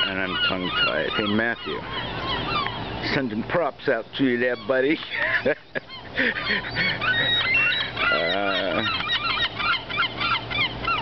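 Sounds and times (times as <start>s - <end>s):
flock of seagulls calling: 0.0s - 11.0s.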